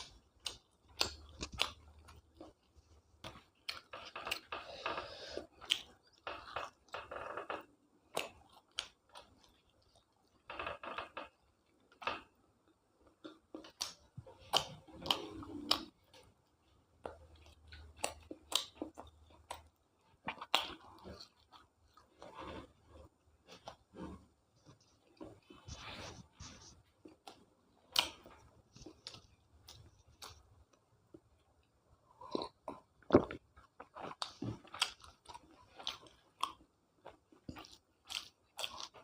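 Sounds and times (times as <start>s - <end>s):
close-up chewing: 0.0s - 11.8s, 13.0s - 39.0s.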